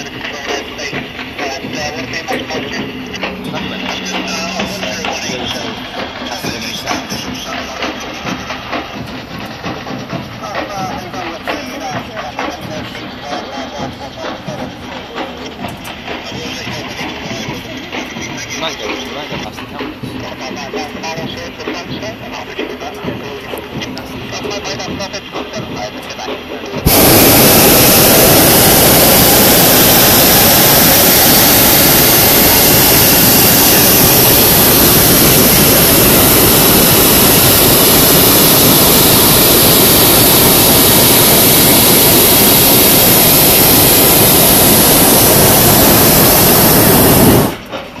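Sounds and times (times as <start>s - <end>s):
propane burner firing: 0.0s - 48.0s.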